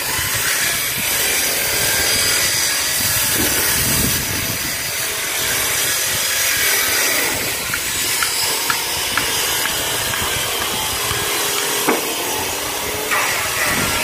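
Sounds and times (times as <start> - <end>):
power tool cutting wood: 0.0 - 14.0.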